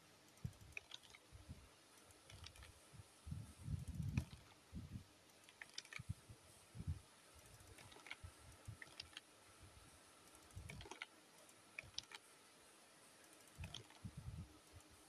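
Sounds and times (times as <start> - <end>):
faint irregular clicks: 0.0 - 15.0.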